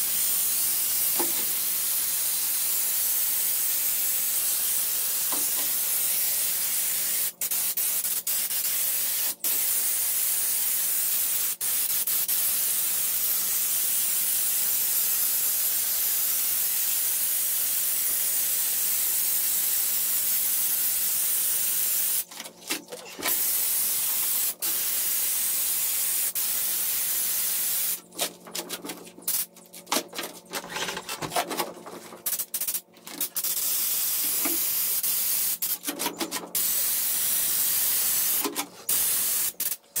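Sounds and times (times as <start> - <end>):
air spray gun hissing: 0.0 - 22.3, 23.2 - 28.0, 32.2 - 35.9, 36.6 - 40.0.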